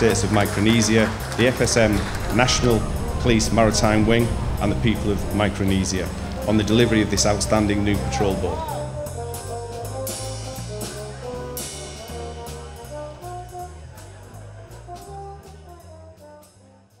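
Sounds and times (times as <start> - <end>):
music with steady beat and bass: 0.0 - 17.0.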